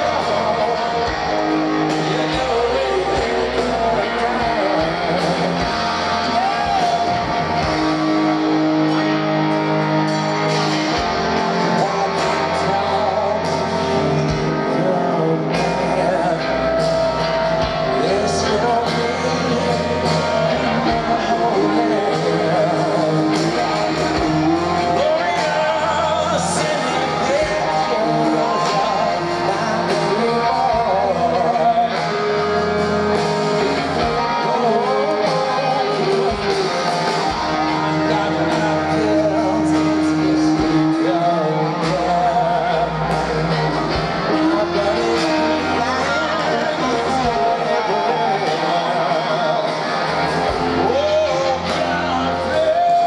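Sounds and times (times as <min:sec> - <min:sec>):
live rock band: 0:00.0 - 0:53.0
person singing: 0:00.0 - 0:53.0.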